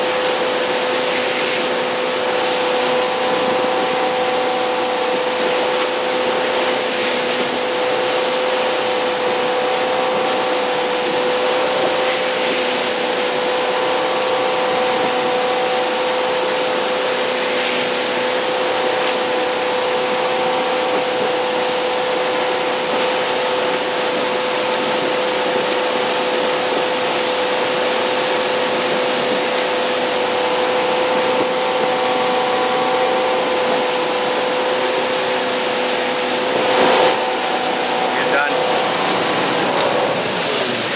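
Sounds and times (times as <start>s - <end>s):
boat engine humming: 0.0s - 40.9s
wake water rushing: 0.0s - 40.9s
wind: 0.0s - 40.9s.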